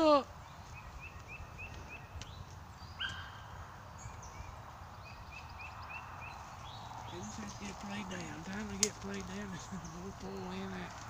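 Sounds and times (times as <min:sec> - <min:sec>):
songbird high chirps: 0:00.0 - 0:10.9.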